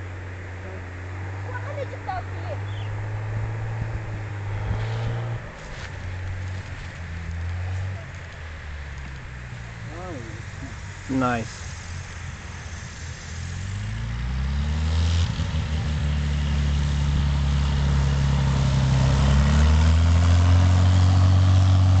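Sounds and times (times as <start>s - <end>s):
propeller plane engine revving: 0.0s - 22.0s.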